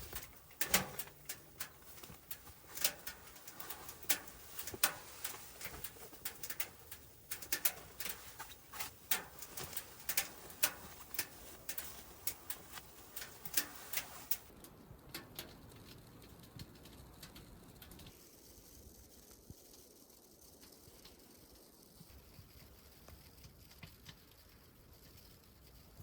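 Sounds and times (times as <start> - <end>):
sharp clicks and crackles: 0.0 - 26.0.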